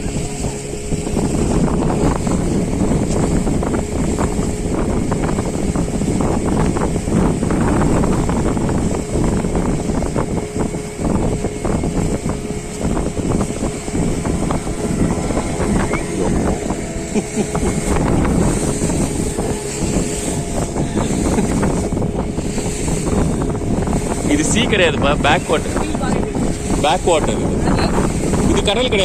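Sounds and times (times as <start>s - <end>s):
boat engine droning: 0.0s - 29.0s
water noise: 0.0s - 29.0s
wind buffeting microphone: 0.0s - 29.0s.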